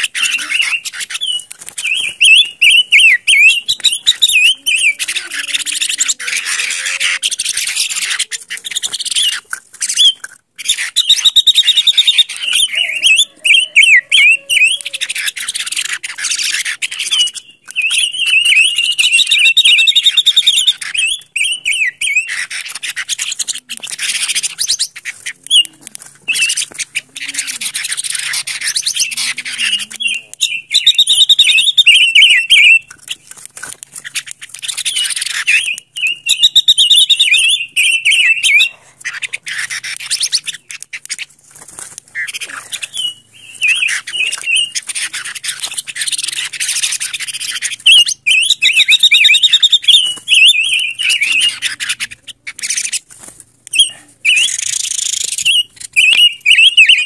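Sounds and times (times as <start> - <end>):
bird singing warbled notes: 0.0 - 33.3, 34.0 - 40.9, 42.2 - 53.0, 53.7 - 57.0.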